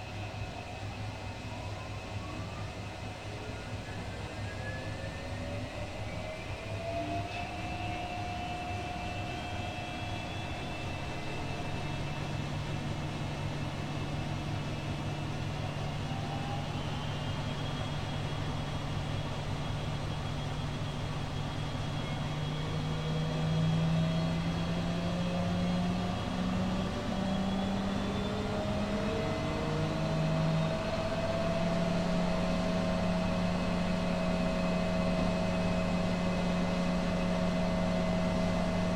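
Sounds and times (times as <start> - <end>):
motor hum and whine: 0.0 - 38.9
washing machines spinning: 0.0 - 38.9.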